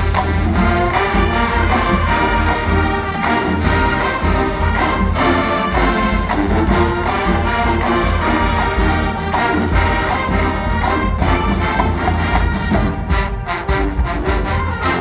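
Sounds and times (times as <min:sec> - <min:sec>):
heavy low drums: 0:00.0 - 0:15.0
marching band playing: 0:00.0 - 0:15.0
trombones and trumpets chords: 0:00.0 - 0:15.0.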